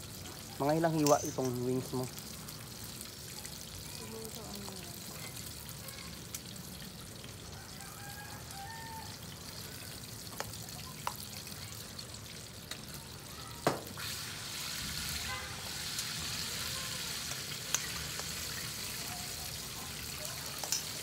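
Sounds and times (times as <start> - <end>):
oil frying hiss: 0.0 - 21.0.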